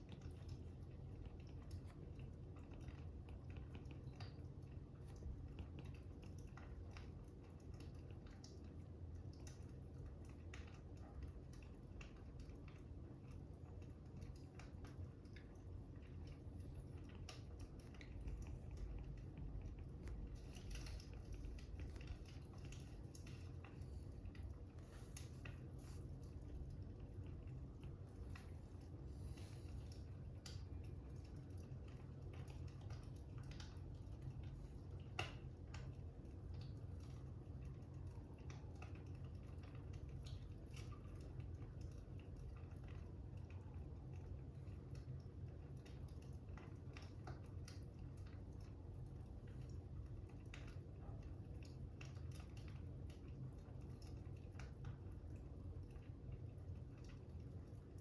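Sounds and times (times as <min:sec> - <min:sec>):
fire crackling faintly: 0:00.0 - 0:58.0.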